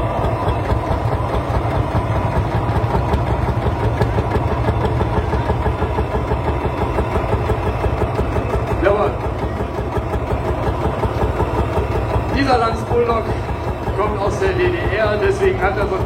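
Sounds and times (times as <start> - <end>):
single-cylinder diesel engine running: 0.0 - 16.0.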